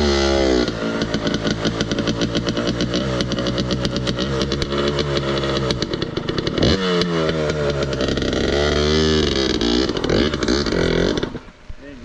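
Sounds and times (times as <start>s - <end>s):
dirt bike engine revving: 0.0s - 11.6s.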